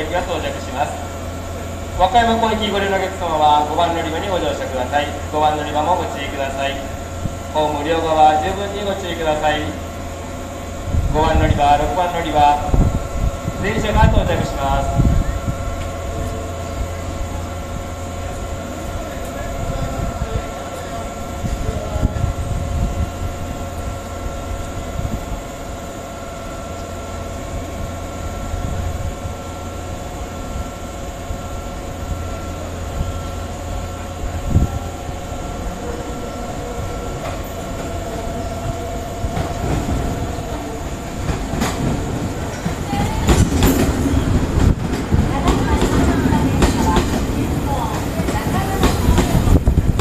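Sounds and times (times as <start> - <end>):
electric train approaching: 0.0 - 50.0
train wheel clatter: 0.0 - 50.0.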